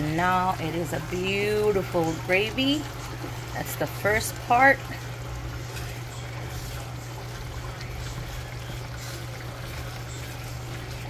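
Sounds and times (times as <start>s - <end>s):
gravy bubbling and sputtering: 0.0s - 11.0s
steady low hum: 0.0s - 11.0s
spatula stirring: 0.7s - 11.0s.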